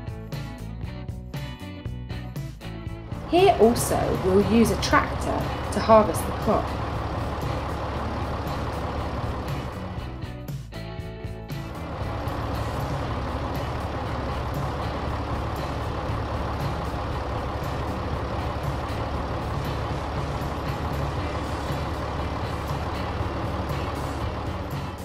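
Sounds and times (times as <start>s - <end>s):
tractor engine running: 3.0s - 10.4s, 11.5s - 25.0s.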